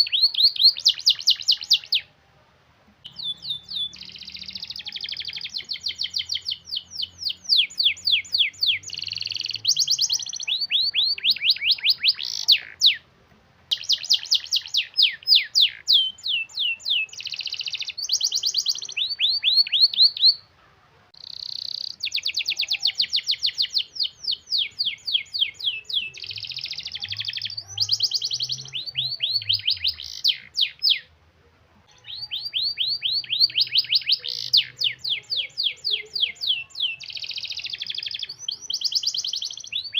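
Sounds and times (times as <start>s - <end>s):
canary singing trills: 0.0s - 2.1s, 3.0s - 13.1s, 13.7s - 31.1s, 31.8s - 39.9s.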